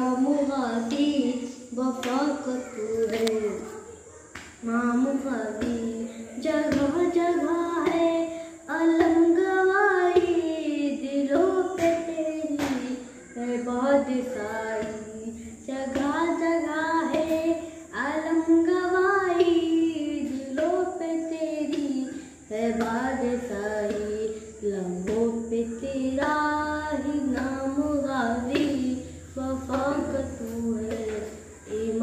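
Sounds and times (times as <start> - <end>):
boy singing a lament: 0.0 - 4.0, 4.6 - 32.0.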